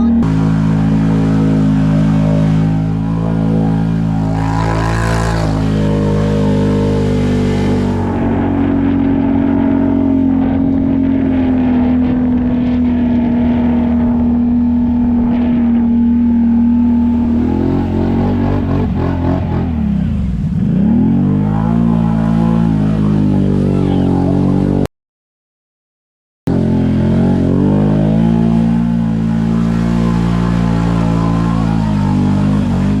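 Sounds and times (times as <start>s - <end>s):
atv engine revving: 0.0s - 24.9s, 26.5s - 33.0s.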